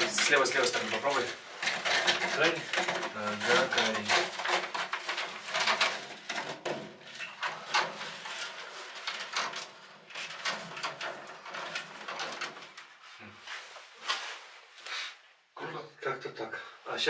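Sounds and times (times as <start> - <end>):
aluminium duct crinkling and scraping: 0.0 - 15.3.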